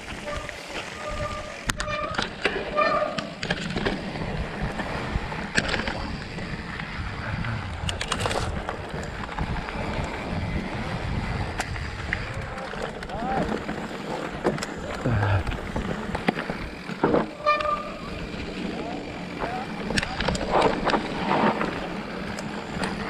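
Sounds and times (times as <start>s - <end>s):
bike rattling: 0.0s - 23.0s
bike tyre rumble: 0.0s - 23.0s.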